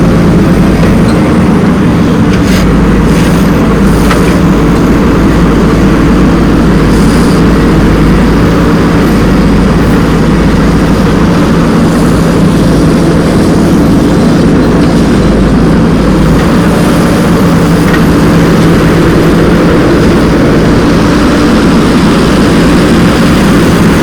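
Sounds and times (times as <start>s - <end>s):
diesel machinery engines droning: 0.0s - 24.0s.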